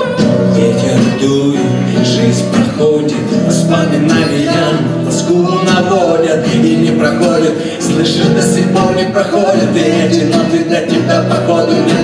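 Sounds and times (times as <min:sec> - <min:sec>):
hand drum percussion: 0:00.0 - 0:12.0
strummed acoustic guitar: 0:00.0 - 0:12.0.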